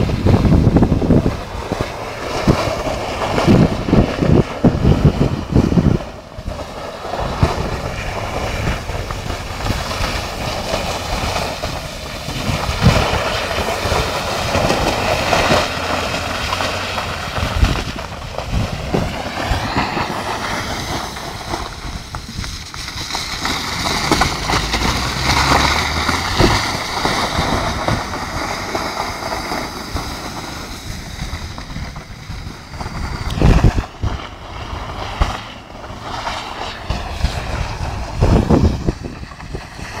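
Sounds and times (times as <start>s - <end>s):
distant car engine running: 0.0s - 40.0s
tyres on loose gravel: 0.0s - 40.0s
wind buffeting microphone: 0.0s - 40.0s.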